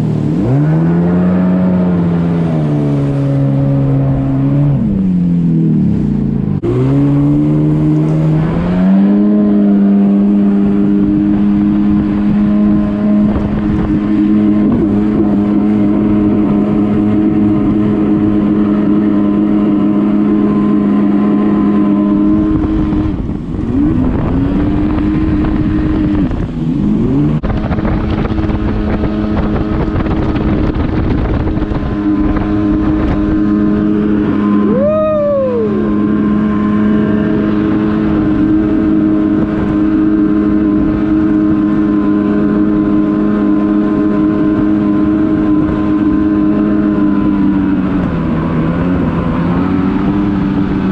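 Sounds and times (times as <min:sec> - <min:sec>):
jet ski engine running: 0:00.0 - 0:50.9.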